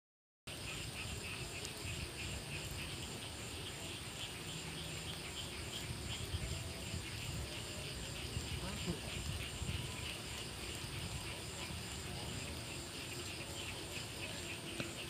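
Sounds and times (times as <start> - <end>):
insects chirping: 0.5 - 15.0.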